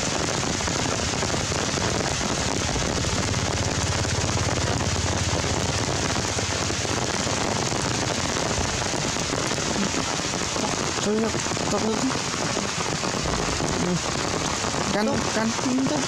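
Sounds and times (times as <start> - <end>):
low rumble: 0.0 - 12.3, 13.0 - 15.4
rain falling on leaves: 0.0 - 16.0.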